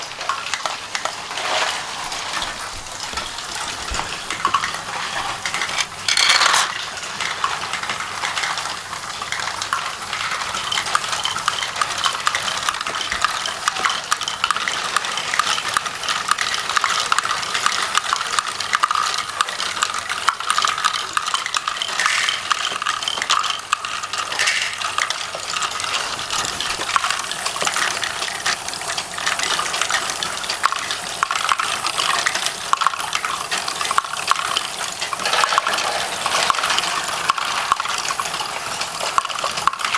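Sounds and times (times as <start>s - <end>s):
plastic pieces clattering: 0.0s - 39.9s.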